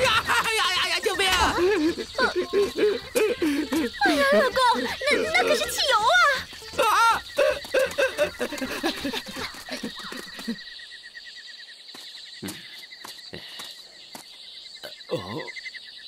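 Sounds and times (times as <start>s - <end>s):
rhythmic insect chirping: 0.0s - 16.0s.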